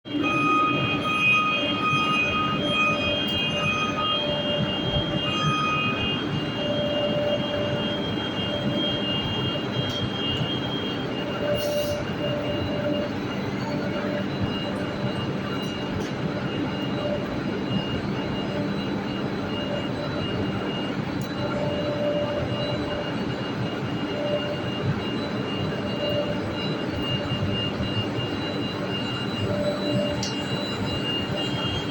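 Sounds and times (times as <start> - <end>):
faint whining tones: 0.1 - 31.9.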